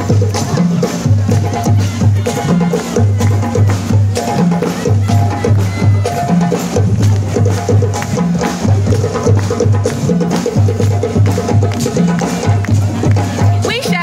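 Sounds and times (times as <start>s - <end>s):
sharp percussion hits: 0.0s - 14.0s.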